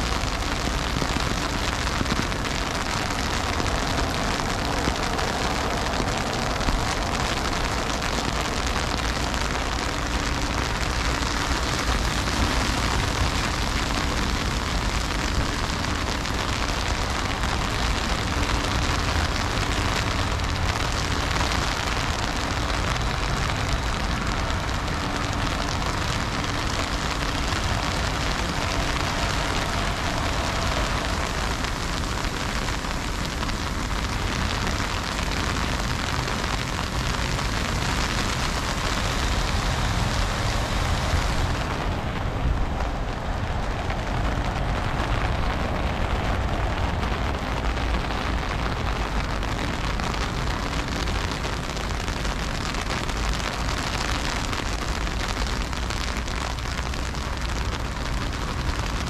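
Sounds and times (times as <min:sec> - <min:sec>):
low rumble: 0:00.0 - 0:50.8
heavy freezing rain hissing: 0:00.0 - 0:59.0.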